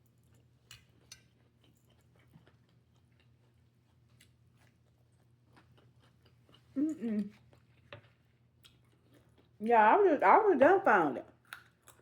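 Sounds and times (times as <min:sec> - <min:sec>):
quiet chewing of food: 0:00.0 - 0:09.6, 0:11.2 - 0:12.0.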